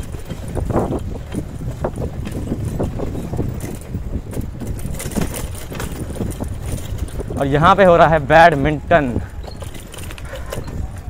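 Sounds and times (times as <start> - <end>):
bicycle tyres rumbling on paving: 0.0 - 11.0
bike rattling: 0.0 - 11.0
wind on microphone: 0.0 - 11.0.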